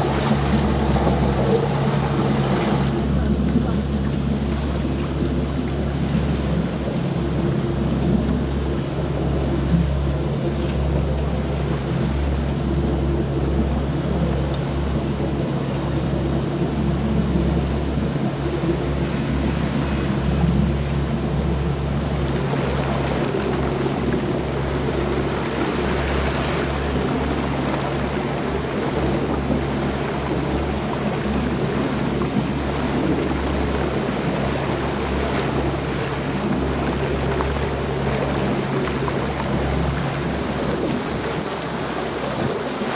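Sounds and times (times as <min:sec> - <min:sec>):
boat engine droning: 0:00.0 - 0:42.9
wind: 0:00.0 - 0:42.9.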